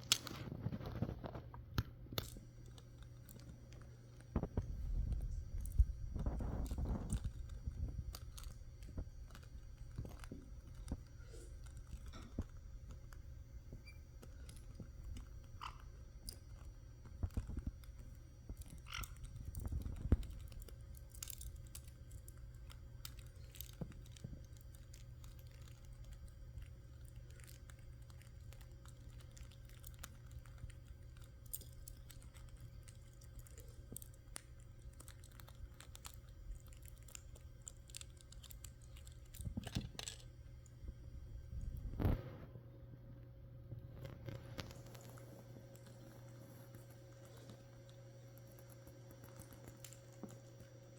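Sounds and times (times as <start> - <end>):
parrots chewing and tearing: 0.0 - 42.5, 43.8 - 50.9.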